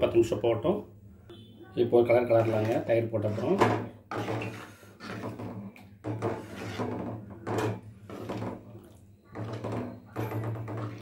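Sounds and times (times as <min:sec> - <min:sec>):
metal ladle scraping curry: 0:02.1 - 0:11.0.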